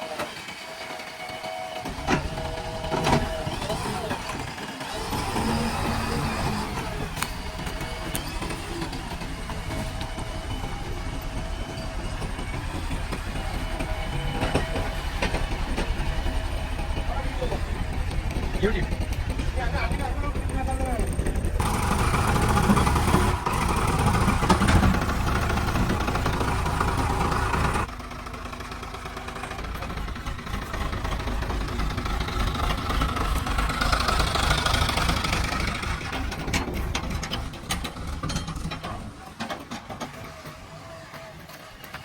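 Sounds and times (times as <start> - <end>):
heavy machinery diesel engine running: 0.0 - 42.0.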